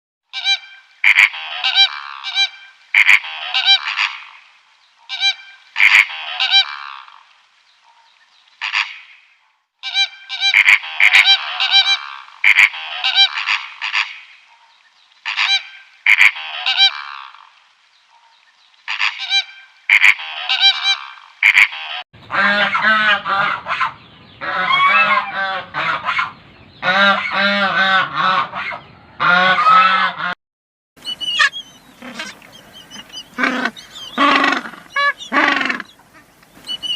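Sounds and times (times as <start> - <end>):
geese honking: 0.3 - 4.4, 5.1 - 7.3, 8.6 - 9.2, 9.8 - 14.6, 15.2 - 17.6, 18.9 - 30.4, 31.0 - 36.9.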